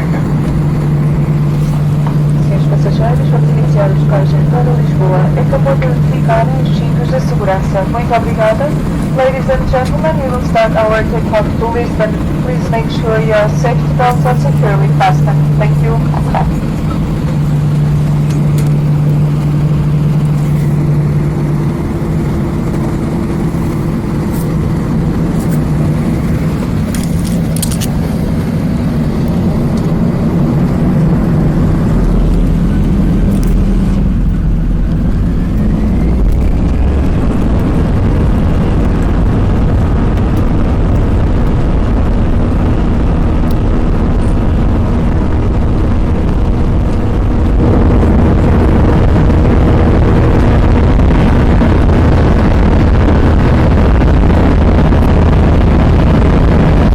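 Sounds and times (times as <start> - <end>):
deep low rumble: 0.0 - 56.9
jet engines at takeoff power: 0.0 - 56.9.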